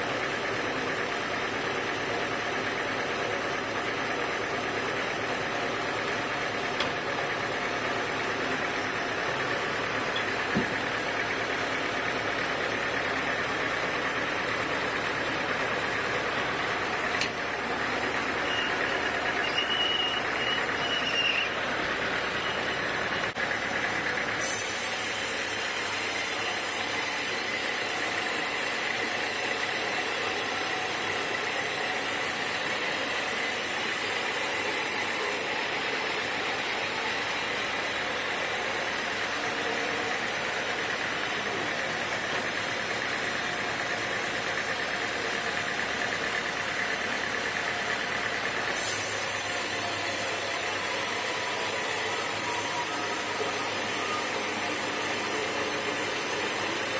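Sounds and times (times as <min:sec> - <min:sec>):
sawmill machinery engine running: 0:00.0 - 0:56.9.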